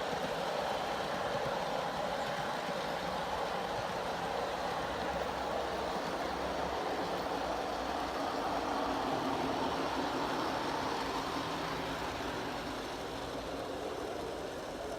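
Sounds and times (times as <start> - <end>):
model train rumbling on track: 0.0 - 14.9.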